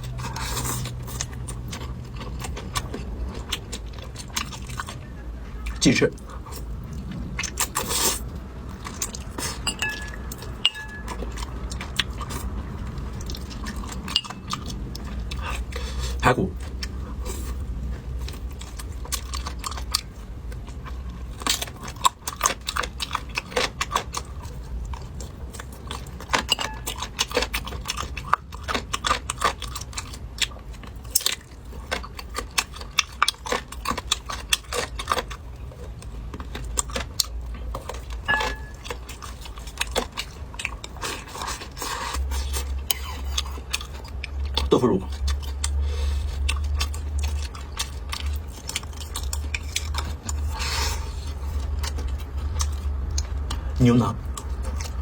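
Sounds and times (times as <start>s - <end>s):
chewing and crunching ribs: 0.0s - 55.0s.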